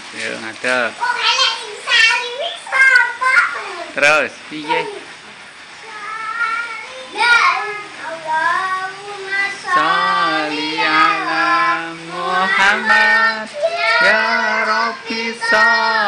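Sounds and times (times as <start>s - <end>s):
children singing devotional song: 0.8s - 16.0s.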